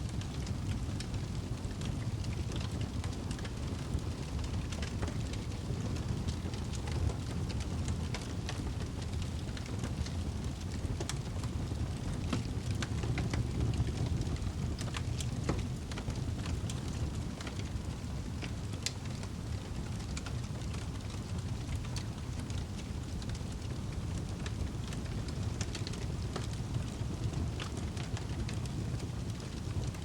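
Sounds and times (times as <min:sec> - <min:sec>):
wood fire burning: 0:00.0 - 0:30.0.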